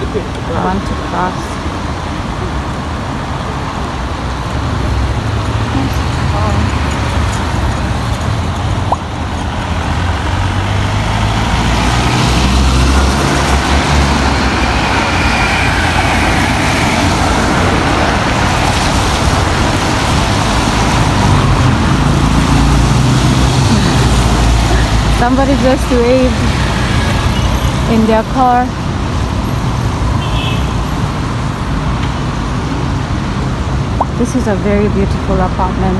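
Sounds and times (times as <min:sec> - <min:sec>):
traffic on wet road: 0:00.0 - 0:35.9.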